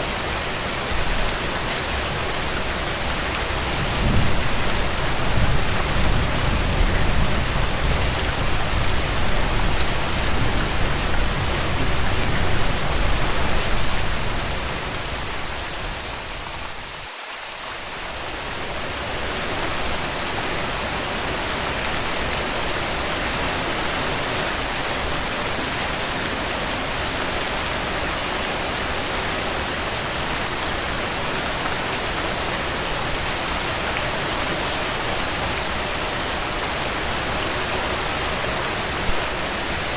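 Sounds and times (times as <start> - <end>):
rain on a tent: 0.0 - 39.9.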